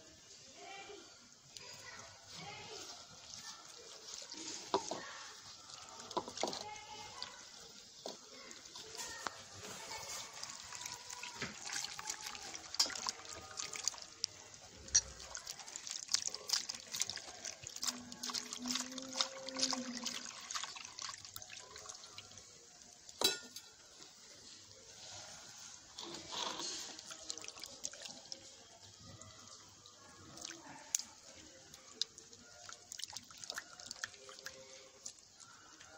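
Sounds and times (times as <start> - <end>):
hand mixing wet batter: 0.3 - 35.9
liquid pouring into batter: 0.3 - 35.9.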